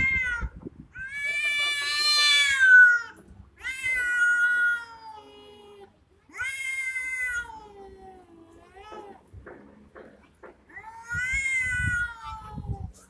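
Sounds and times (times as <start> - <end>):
cats yowling: 0.0 - 9.2, 10.7 - 12.7.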